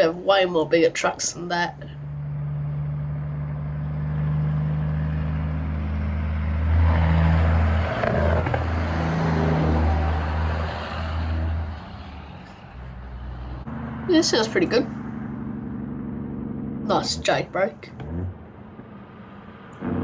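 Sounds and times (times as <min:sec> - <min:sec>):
diesel truck engine droning: 0:00.0 - 0:20.0.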